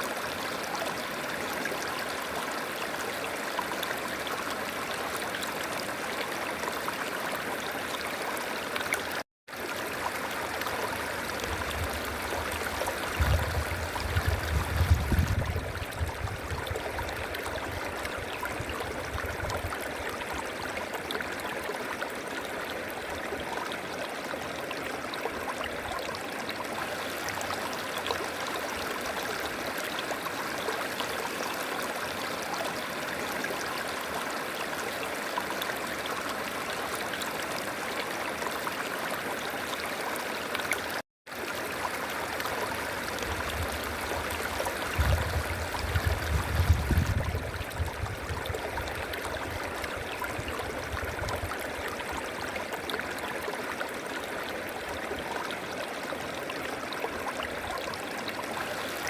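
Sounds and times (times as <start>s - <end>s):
river water rushing and gurgling: 0.0s - 59.0s.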